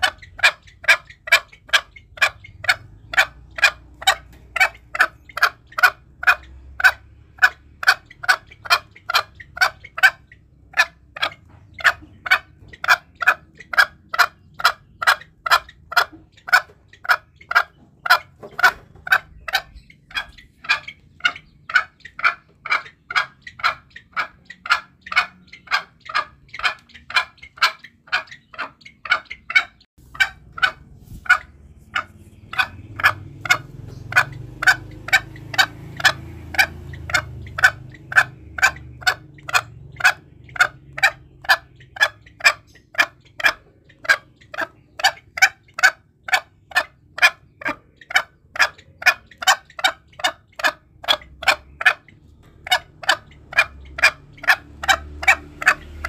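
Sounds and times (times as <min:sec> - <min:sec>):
junglefowl calling: 0:00.0 - 0:56.0.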